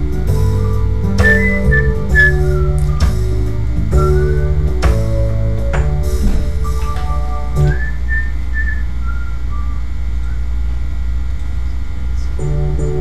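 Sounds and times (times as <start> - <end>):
high thin synthesizer melody: 0.0 - 11.3
steady low hum: 0.0 - 13.0
synthesizer organ-like chords: 0.0 - 13.0.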